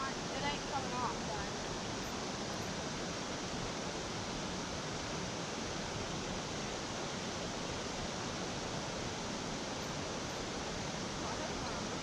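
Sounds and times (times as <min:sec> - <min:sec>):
rush of moving water: 0:00.0 - 0:12.0.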